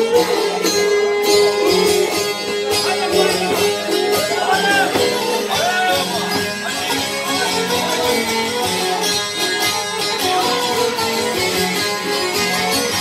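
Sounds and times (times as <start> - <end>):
plucked lutes: 0.0 - 13.0
violin playing: 0.0 - 13.0.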